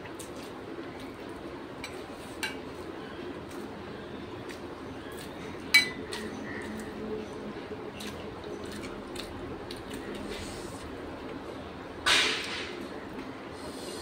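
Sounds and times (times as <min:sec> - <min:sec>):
quiet eating sounds: 0:00.0 - 0:11.8, 0:12.5 - 0:14.0.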